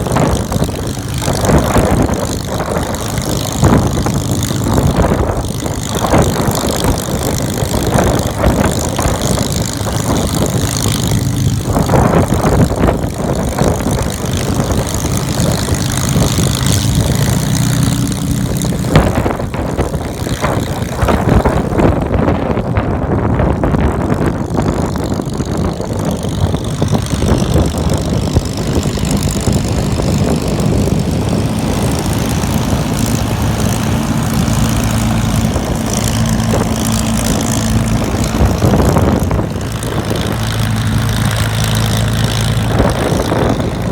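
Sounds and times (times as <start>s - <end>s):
aircraft engine running loud: 0.0s - 43.9s.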